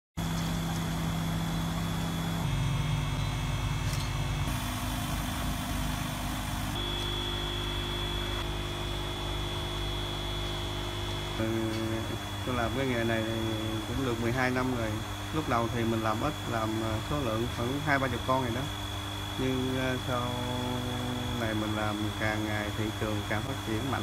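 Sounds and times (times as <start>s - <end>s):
electric air pump humming: 0.2s - 24.0s.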